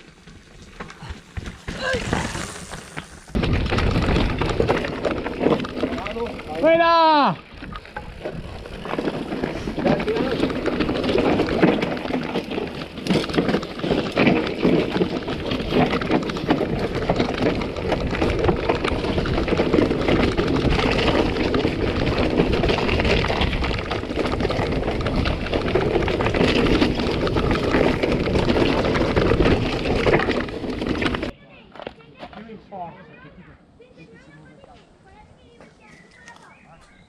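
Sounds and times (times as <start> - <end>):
tyres crunching over stones: 0.0 - 32.5
bike rattling: 0.0 - 32.6.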